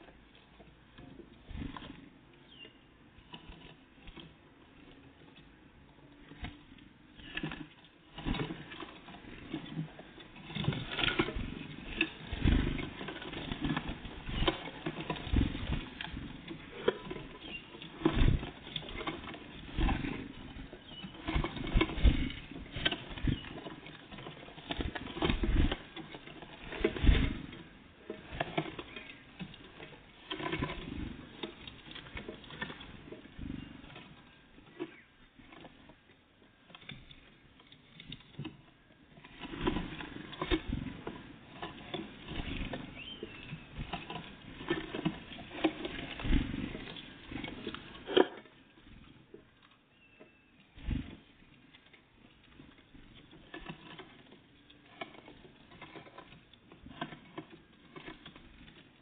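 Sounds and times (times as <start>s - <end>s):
birds pecking and scratching: 0.0s - 59.0s.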